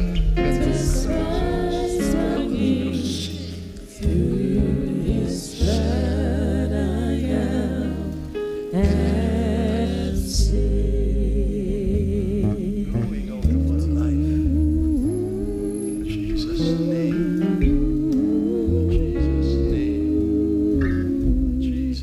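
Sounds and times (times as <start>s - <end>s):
gospel band playing: 0.0s - 22.0s
low bass notes: 0.0s - 22.0s
person singing with vibrato: 0.0s - 22.0s.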